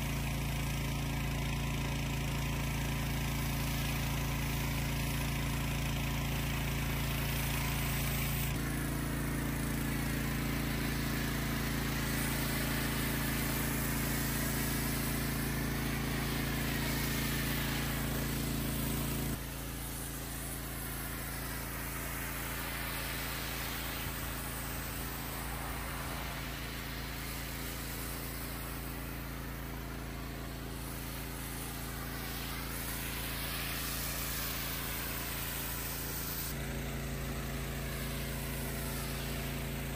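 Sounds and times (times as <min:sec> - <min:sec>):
foam cannon hissing: 0:00.0 - 0:39.9
pressure washer running: 0:00.0 - 0:39.9.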